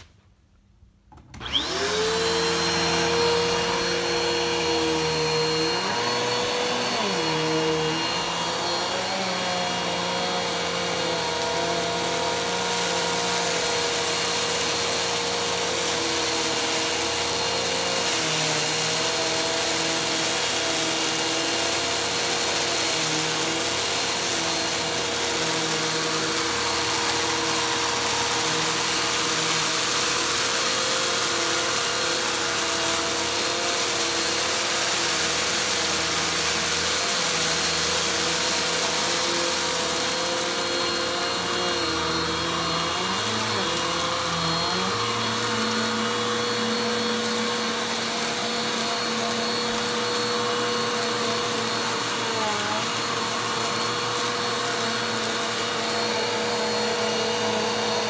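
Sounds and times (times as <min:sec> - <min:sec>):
vacuum cleaner running on carpet: 0:01.3 - 0:58.0.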